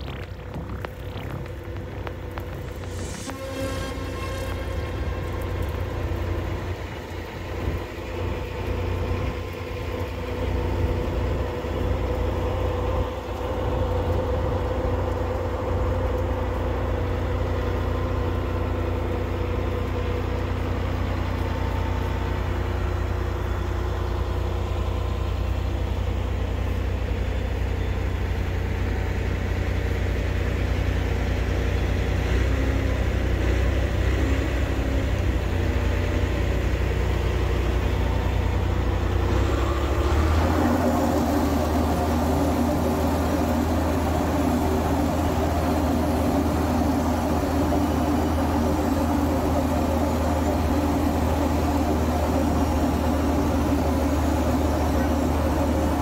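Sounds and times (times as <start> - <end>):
heavy engine humming steadily: 0.0 - 56.0.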